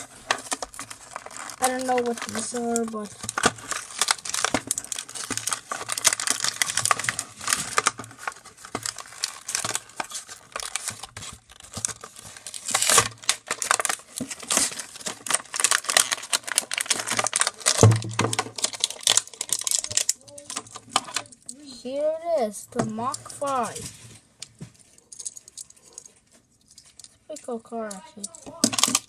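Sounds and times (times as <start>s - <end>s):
packaging crinkling and tearing: 0.0s - 21.6s, 23.5s - 29.0s.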